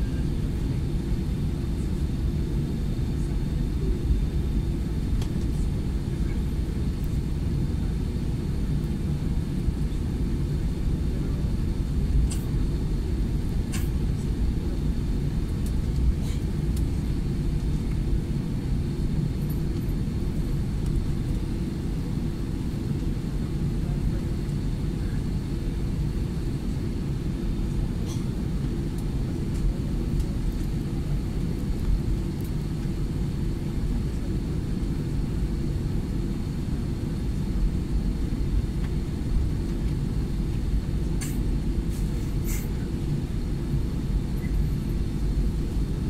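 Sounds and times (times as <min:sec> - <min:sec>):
aircraft cabin rumble: 0:00.0 - 0:46.0.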